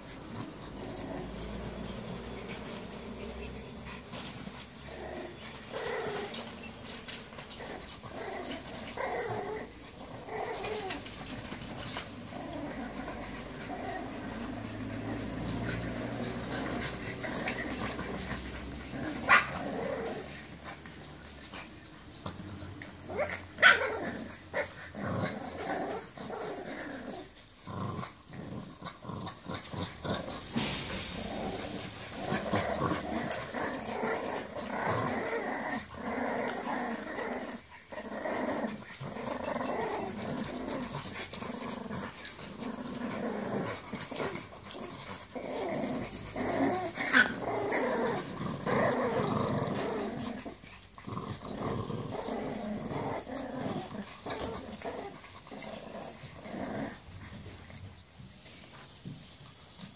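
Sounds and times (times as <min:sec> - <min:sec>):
dogs growling in play: 0:00.0 - 0:59.9.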